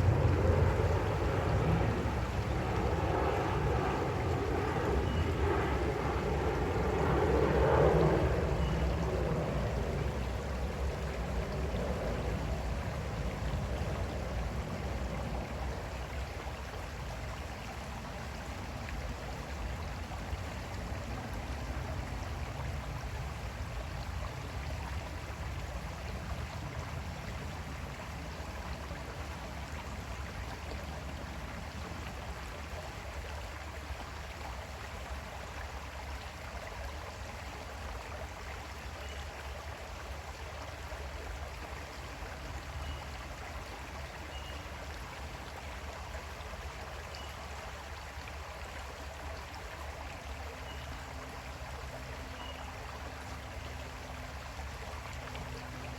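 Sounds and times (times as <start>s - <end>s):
creek water flowing: 0.0s - 55.9s.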